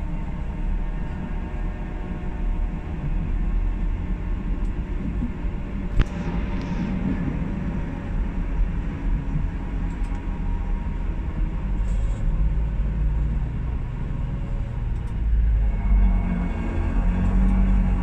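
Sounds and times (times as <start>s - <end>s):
tram wheels rumbling on track: 0.0s - 18.0s.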